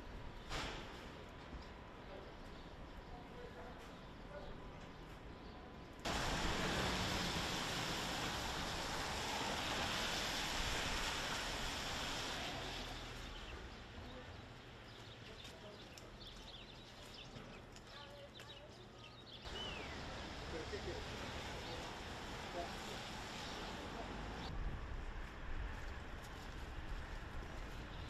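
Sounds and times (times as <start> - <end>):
street noise: 0.0 - 28.0.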